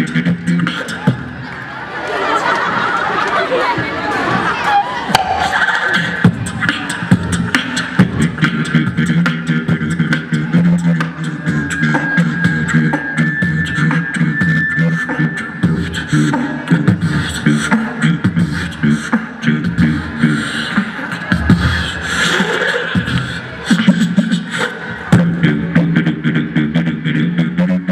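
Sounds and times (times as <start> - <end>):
beatboxing through speakers: 0.0 - 27.9.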